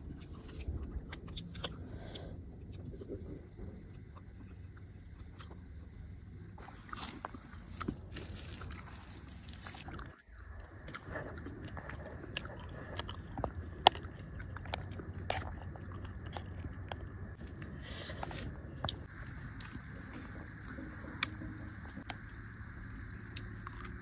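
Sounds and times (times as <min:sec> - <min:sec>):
chewing and biting fruit: 0:00.0 - 0:24.0
steady low rumble: 0:00.0 - 0:24.0.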